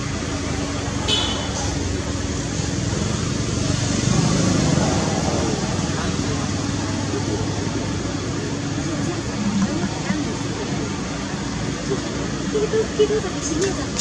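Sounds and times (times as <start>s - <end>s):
faint indistinct voices: 0.0s - 14.0s.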